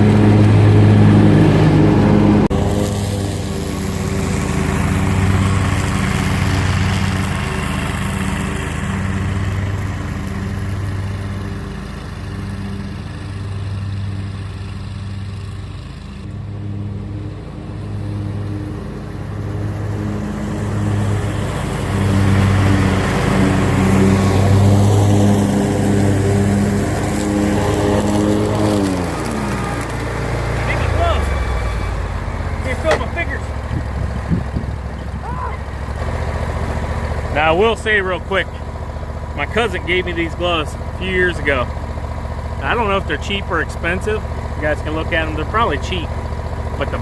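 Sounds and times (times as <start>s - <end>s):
mower engine running: 0.0s - 47.0s.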